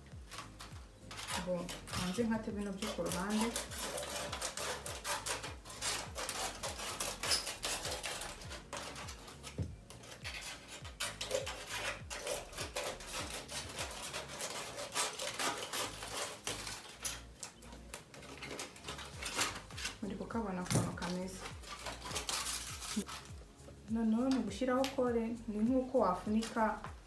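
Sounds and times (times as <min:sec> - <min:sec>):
foil crinkling: 0:00.0 - 0:23.4
scissors snipping foil: 0:00.0 - 0:23.4, 0:26.4 - 0:26.8.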